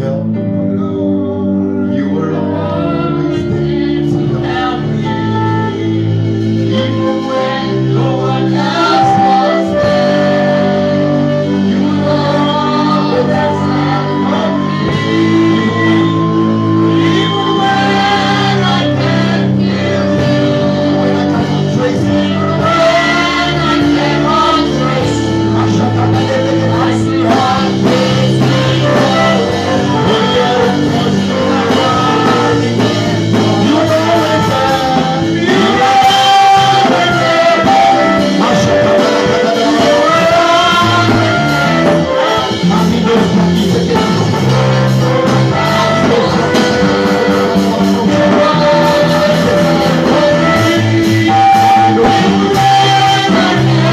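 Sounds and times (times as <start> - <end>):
guitar: 0.0 - 53.9
keyboard chords: 0.0 - 53.9
voices singing: 0.0 - 53.9.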